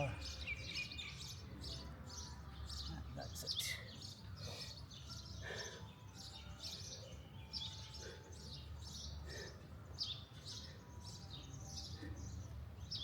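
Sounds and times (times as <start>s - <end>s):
wild birds chirping: 0.0s - 13.0s.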